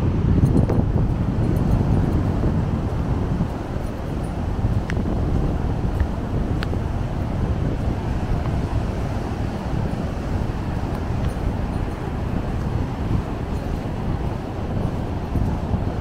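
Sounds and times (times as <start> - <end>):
surf washing over sand: 0.0 - 16.0
wind buffeting microphone: 0.0 - 16.0.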